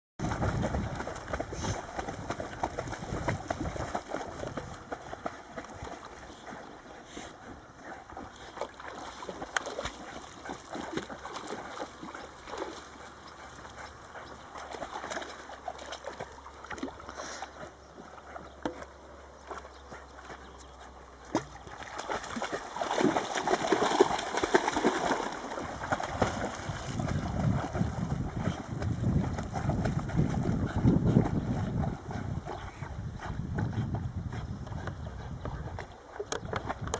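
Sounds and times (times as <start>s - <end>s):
water splashing from swimming dogs: 0.2s - 36.9s.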